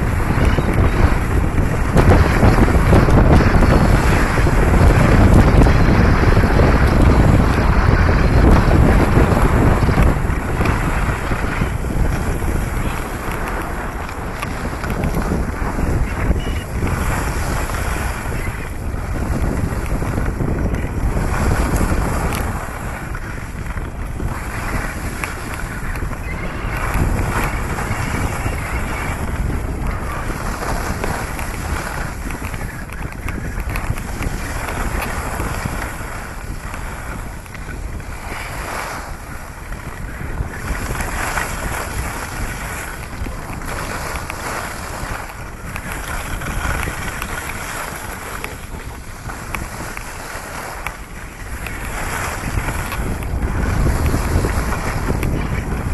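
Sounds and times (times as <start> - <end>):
wind buffeting the microphone: 0.0 - 55.9.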